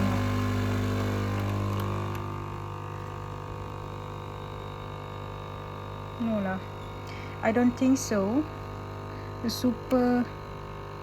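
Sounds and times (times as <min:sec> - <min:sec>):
coffee machine pump buzzing: 0:00.0 - 0:11.0.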